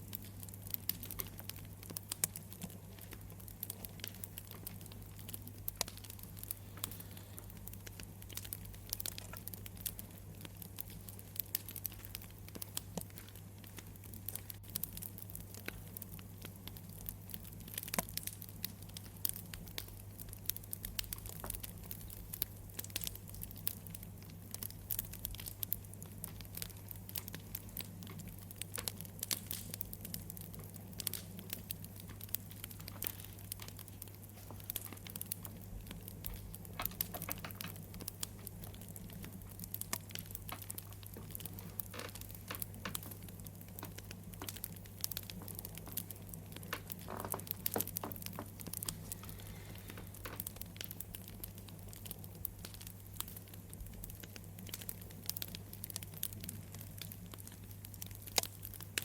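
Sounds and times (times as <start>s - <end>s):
low steady hum: 0.0s - 59.0s
wood fire crackling: 0.0s - 59.0s.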